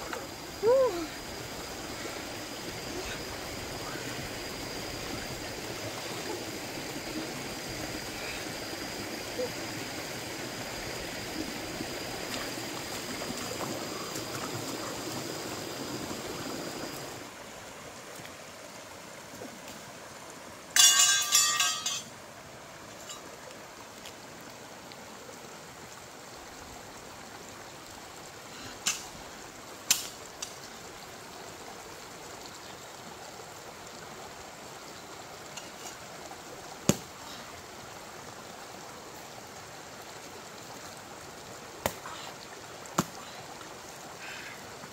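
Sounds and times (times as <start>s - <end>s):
rocky stream flowing: 0.0s - 44.9s.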